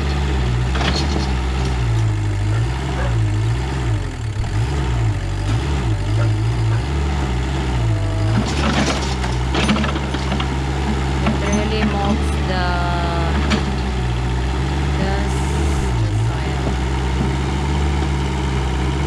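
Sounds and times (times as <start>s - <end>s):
mini backhoe engine running: 0.0s - 19.0s.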